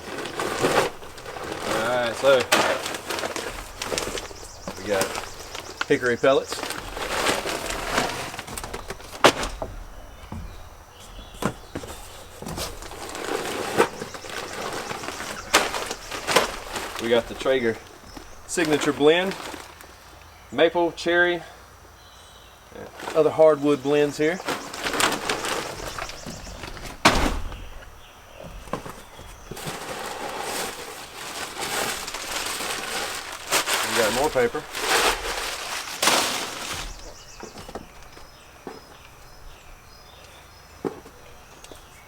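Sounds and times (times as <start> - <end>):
packaging rustling: 0.0 - 20.2, 23.0 - 40.0.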